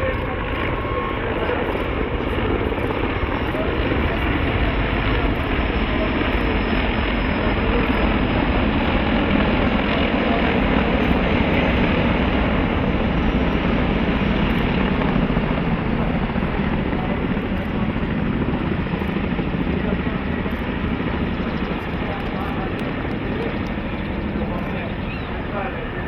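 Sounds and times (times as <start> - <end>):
helicopter rotor blades and engines: 0.0 - 26.0.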